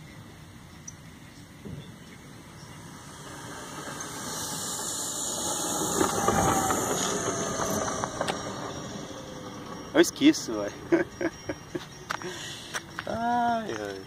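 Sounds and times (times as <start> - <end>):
model plane propellers whining: 1.9 - 13.8.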